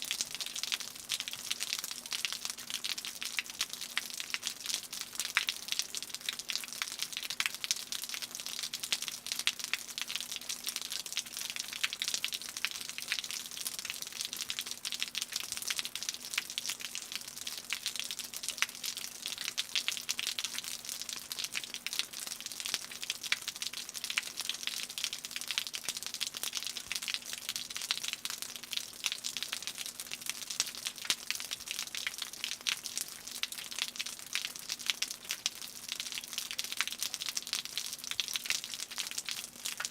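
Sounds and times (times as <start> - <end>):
rain dripping off a roof: 0.0 - 39.9.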